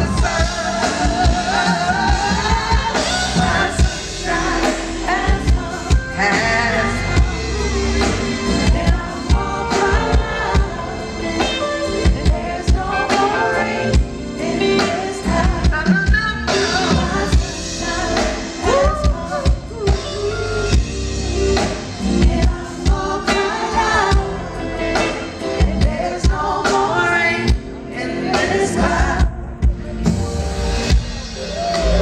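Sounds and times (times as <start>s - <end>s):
woman singing: 0.0s - 30.1s
live soul band playing: 0.0s - 32.0s.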